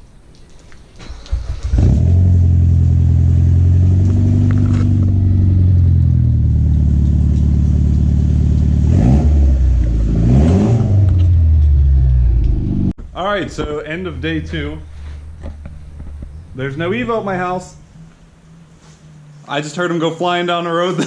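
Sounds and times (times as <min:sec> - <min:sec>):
car engine starting and running: 0:01.0 - 0:20.8.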